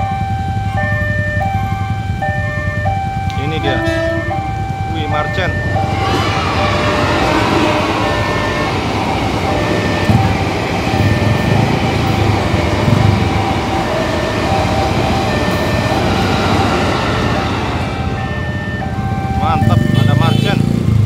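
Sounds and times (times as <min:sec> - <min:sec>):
crossing alarm electronic tones: 0:00.0 - 0:20.8
train wheels rumbling on rails: 0:00.0 - 0:21.0.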